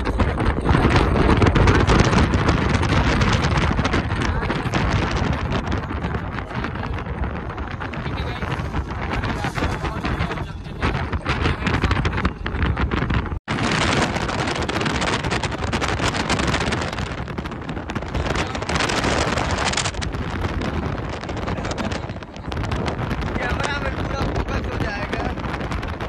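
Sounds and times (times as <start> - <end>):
truck road and engine noise: 0.0 - 26.0
wind buffeting microphone: 0.0 - 26.0.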